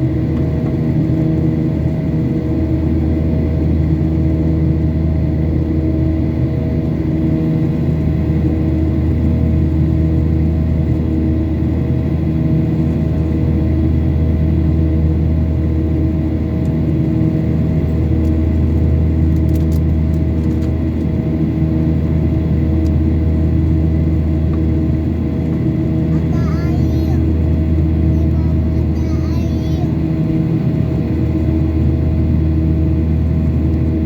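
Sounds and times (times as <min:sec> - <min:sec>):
jet engines droning in cabin: 0:00.0 - 0:34.0.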